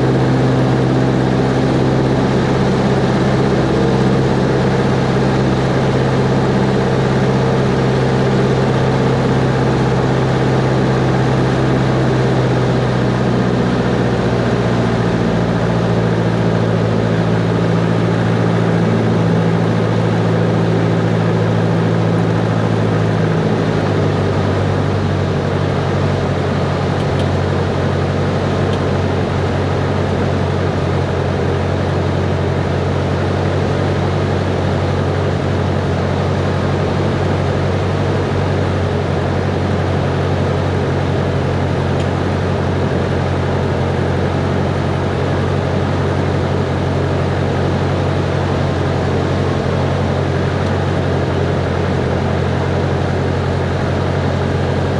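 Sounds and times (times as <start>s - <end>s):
propeller plane engine droning: 0.0s - 54.9s.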